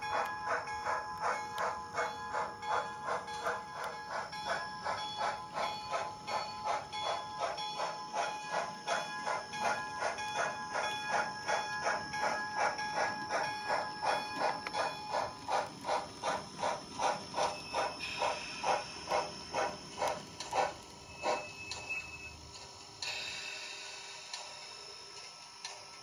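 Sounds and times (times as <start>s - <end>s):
model steam locomotive chuffing: 0.0s - 26.0s
steady hiss: 0.1s - 26.0s.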